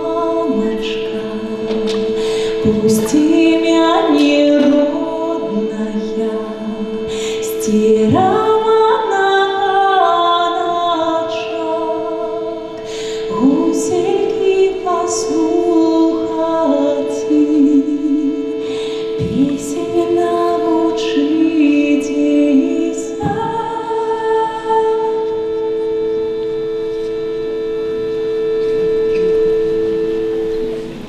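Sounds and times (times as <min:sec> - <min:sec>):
woman singing folk song: 0:00.0 - 0:26.3
held drone note: 0:00.0 - 0:31.0.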